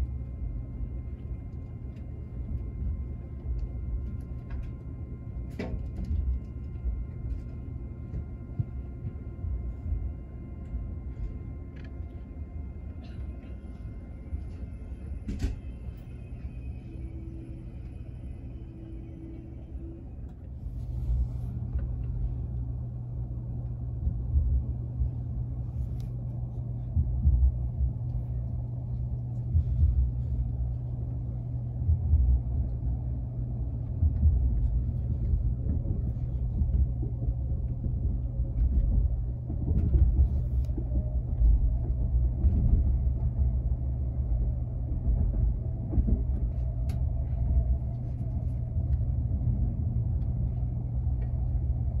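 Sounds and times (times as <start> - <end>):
train rumble inside passenger car: 0.0 - 52.0.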